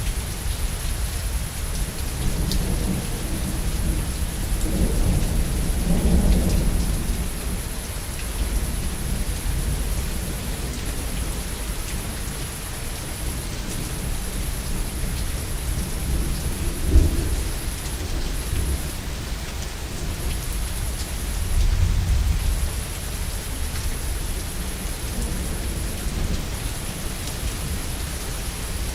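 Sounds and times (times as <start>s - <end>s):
heavy rain: 0.0s - 28.9s.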